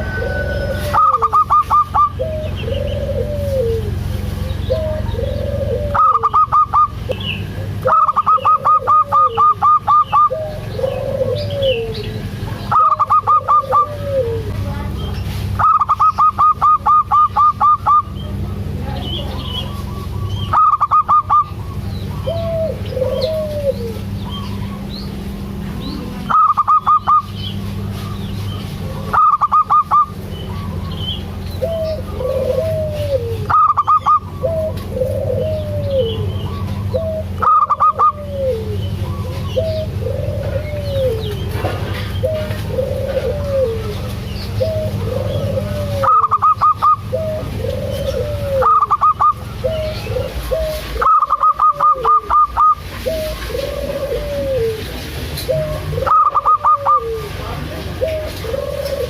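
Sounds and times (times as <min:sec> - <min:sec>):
doves calling: 0:00.0 - 0:59.0
doves cooing: 0:00.0 - 0:59.0
steady low hum: 0:00.0 - 0:59.0.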